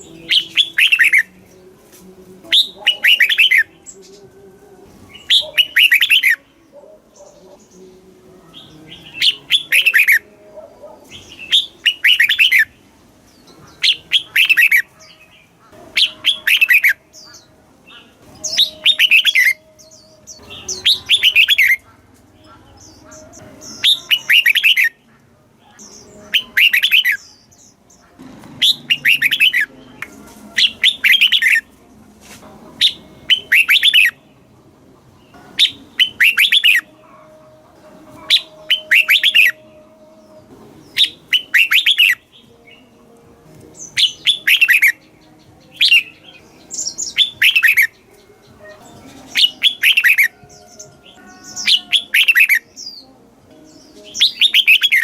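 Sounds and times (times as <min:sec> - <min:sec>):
bulbul singing warbled phrases: 0:00.0 - 0:55.0.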